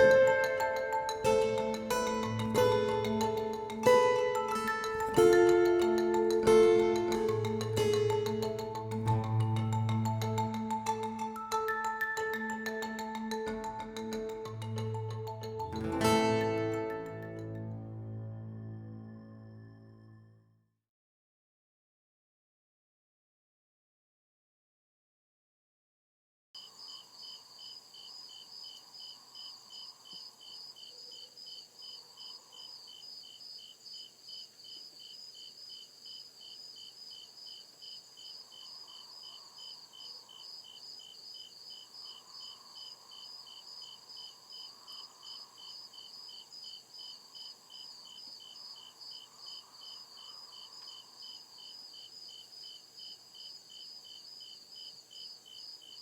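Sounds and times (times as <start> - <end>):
crickets chirping: 0.0 - 15.7, 26.6 - 56.0.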